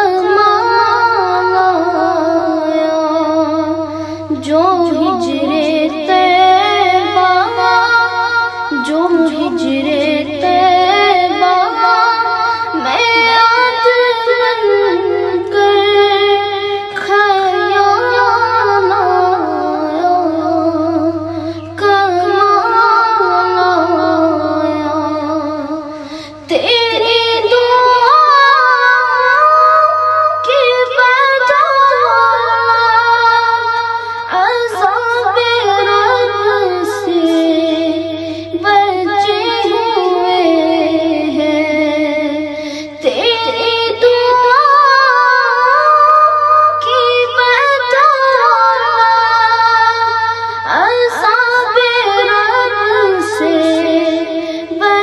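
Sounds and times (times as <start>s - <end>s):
boy singing: 0.0s - 55.0s
steady low hum: 0.0s - 55.0s.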